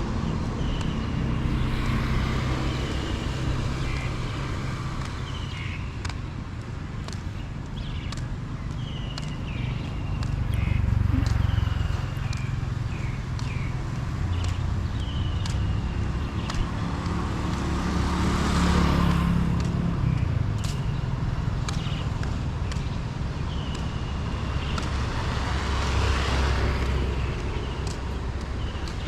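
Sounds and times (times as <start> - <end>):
traffic engine rumble: 0.0 - 29.0
vehicles passing close by: 0.0 - 29.0.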